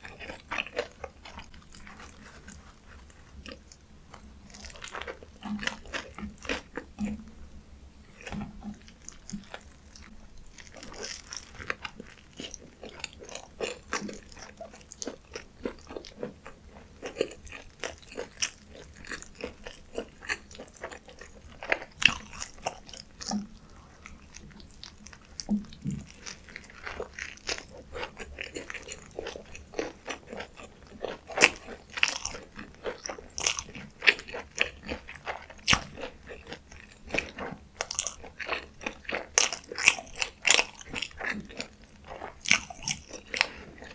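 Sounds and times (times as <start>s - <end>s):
crunchy chewing close up: 0.0s - 7.4s, 8.1s - 43.9s.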